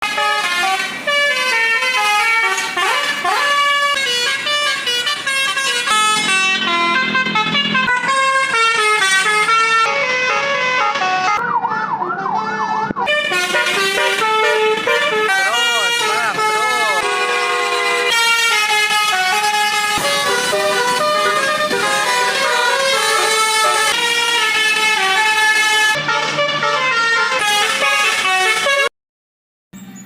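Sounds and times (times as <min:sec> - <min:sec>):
musical air horn playing a tune: 0:00.0 - 0:11.4, 0:12.4 - 0:28.9.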